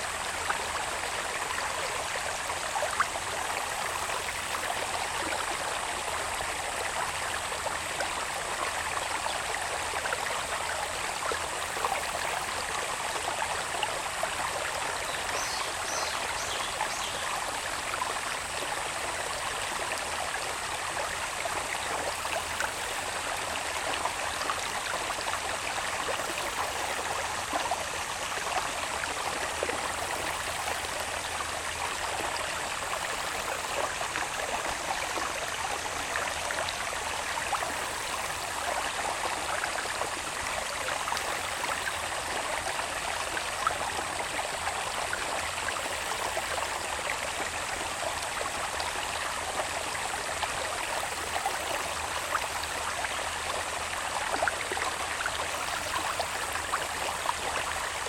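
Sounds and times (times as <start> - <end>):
water babbling in a channel: 0.0 - 58.0.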